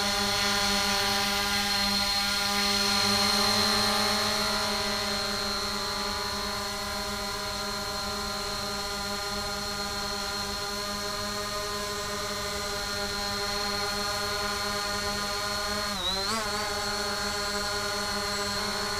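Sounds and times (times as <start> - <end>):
quadcopter propellers buzzing: 0.0 - 18.9.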